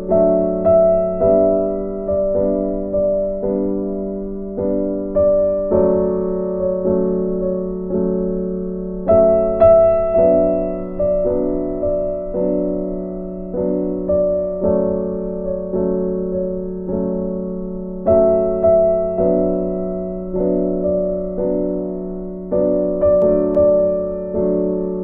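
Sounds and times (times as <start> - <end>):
soft piano chords: 0.0 - 25.0.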